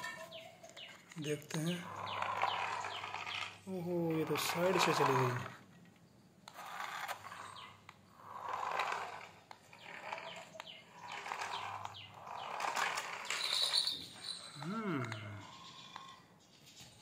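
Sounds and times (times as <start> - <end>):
toy car motor whirring: 0.0 - 5.6, 6.4 - 16.4
toy car bumping plastic toy: 0.0 - 16.2.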